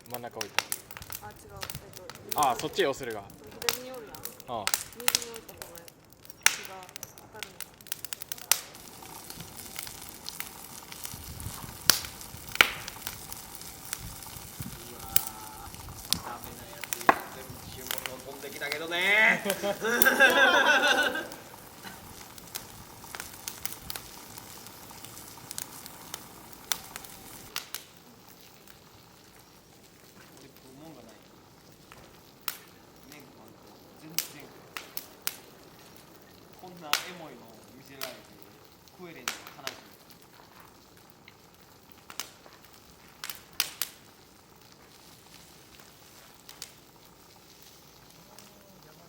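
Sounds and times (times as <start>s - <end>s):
food sizzling on griddle: 0.0s - 49.0s
low steady hiss: 0.0s - 49.0s
sharp pops and crackles: 0.0s - 49.0s.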